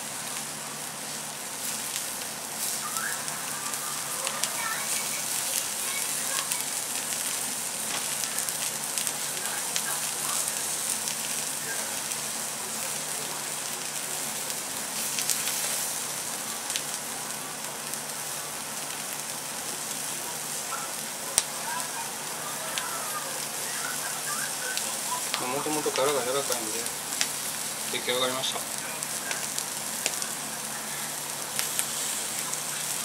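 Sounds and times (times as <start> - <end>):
shrimp heads sizzling in frying pan: 0.0 - 33.0.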